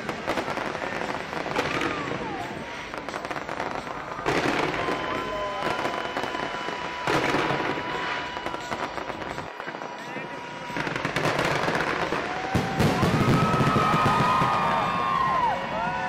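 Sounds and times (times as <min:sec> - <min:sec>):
crowd voices: 0:00.0 - 0:16.0
fireworks exploding and crackling: 0:00.0 - 0:16.0.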